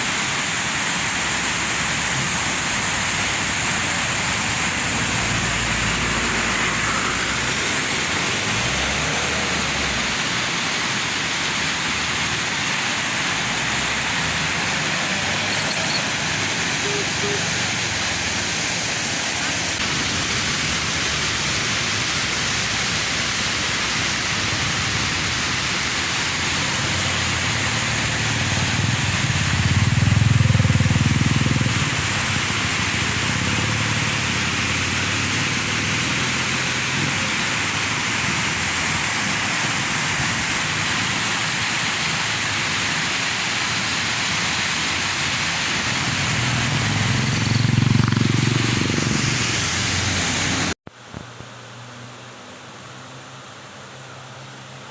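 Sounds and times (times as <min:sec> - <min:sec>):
waterfall rushing: 0:00.0 - 0:50.8.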